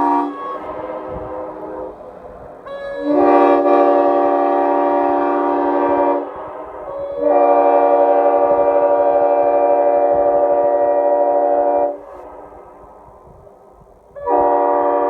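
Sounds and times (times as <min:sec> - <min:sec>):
locomotive air horn chord: 0:00.0 - 0:13.4, 0:14.1 - 0:15.0.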